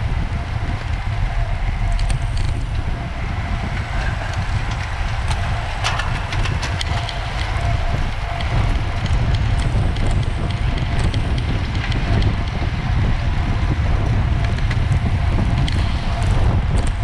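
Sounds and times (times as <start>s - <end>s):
wind buffeting microphone: 0.0s - 17.0s
bicycle clicks and rattles: 0.1s - 17.0s.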